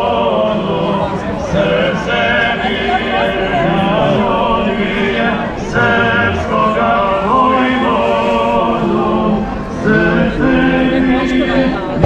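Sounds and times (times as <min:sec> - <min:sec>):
choir singing long notes: 0:00.0 - 0:12.0.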